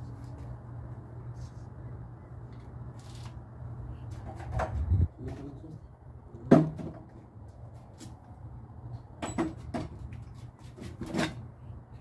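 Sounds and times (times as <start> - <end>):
low steady hum: 0.0 - 10.5.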